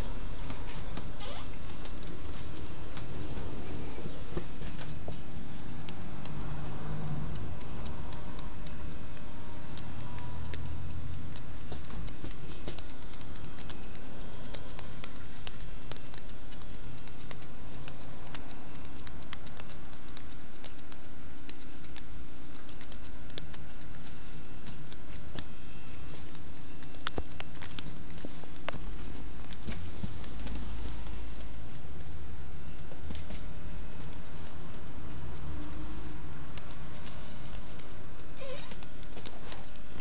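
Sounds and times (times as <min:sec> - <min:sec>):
scissors snipping hair: 0:00.0 - 0:03.6, 0:04.2 - 0:40.0.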